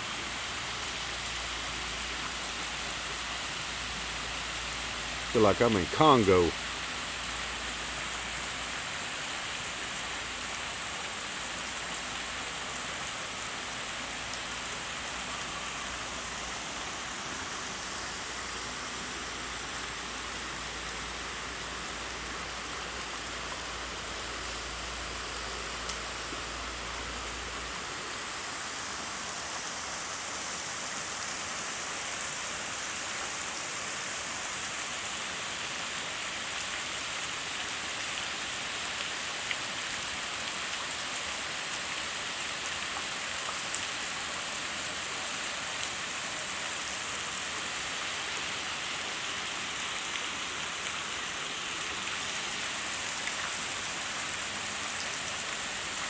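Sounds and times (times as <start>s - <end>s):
hiss of water falling: 0.0s - 56.0s.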